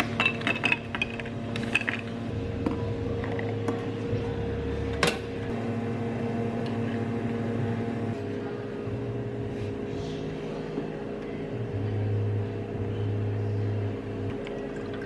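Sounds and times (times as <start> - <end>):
appliance machine hum: 0.0 - 15.0.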